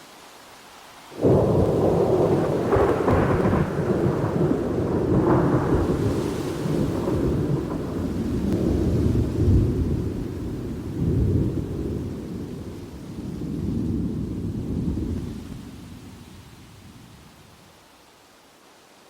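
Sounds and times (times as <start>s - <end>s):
thunder crackles: 1.2s - 17.5s
thunder rumbling: 1.2s - 17.5s.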